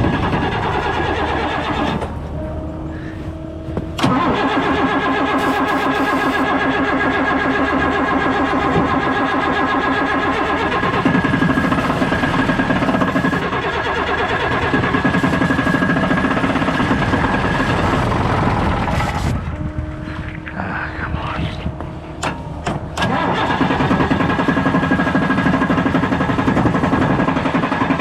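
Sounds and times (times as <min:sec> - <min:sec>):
starter motor cranking engine: 0:00.0 - 0:19.4, 0:22.2 - 0:28.0.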